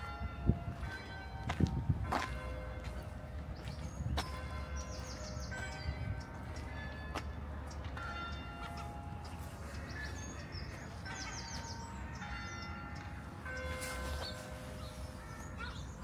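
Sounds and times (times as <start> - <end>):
birds singing: 2.8 - 16.0.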